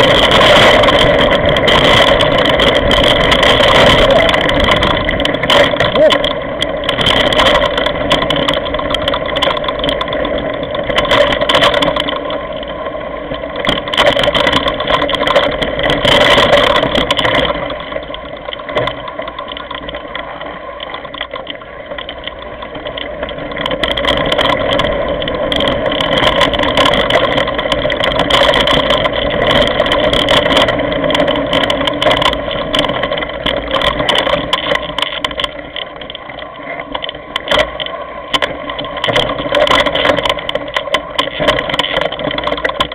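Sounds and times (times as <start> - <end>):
bike knocking over stones: 0.0 - 12.9, 13.5 - 42.9
bike rattling over gravel: 0.0 - 42.9.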